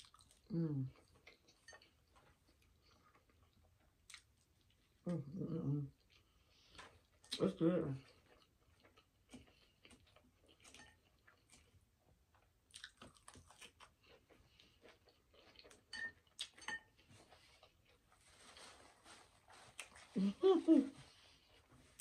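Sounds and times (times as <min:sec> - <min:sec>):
chewing salad: 0:00.0 - 0:22.0.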